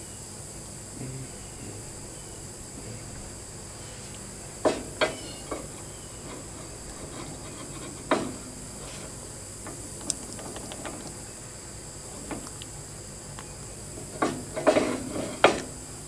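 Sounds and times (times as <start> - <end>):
steady high hiss: 0.0 - 16.0.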